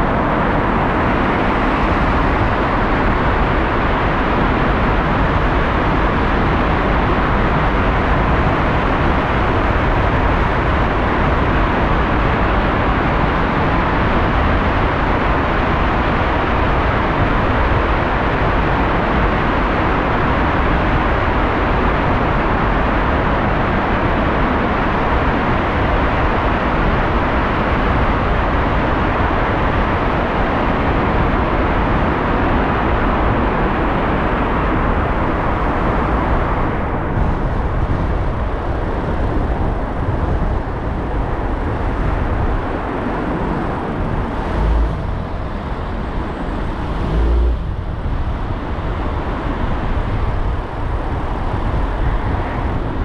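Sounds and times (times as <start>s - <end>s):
car road and tyre noise: 0.0s - 53.0s.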